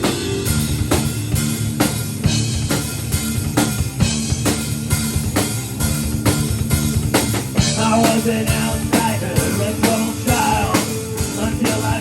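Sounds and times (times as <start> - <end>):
bass and guitar: 0.0 - 12.0
steady drum beat: 0.0 - 12.0.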